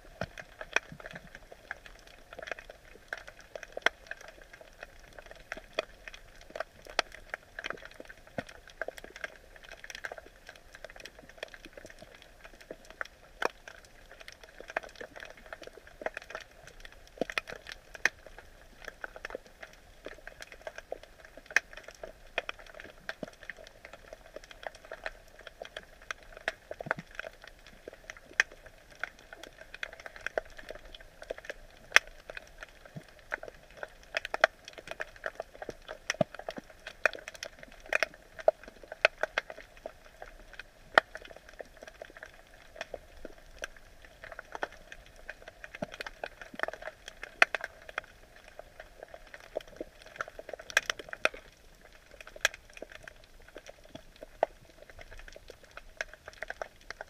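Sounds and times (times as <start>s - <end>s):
underwater crackling clicks: 0.0s - 57.0s.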